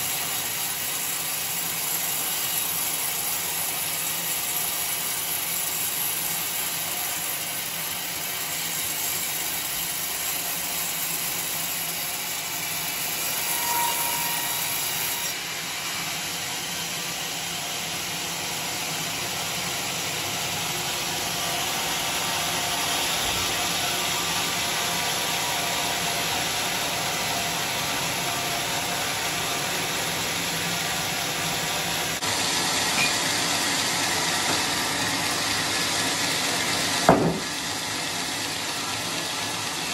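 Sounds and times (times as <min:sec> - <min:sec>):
band saw blade whirring: 0:00.0 - 0:17.5, 0:19.8 - 0:39.9.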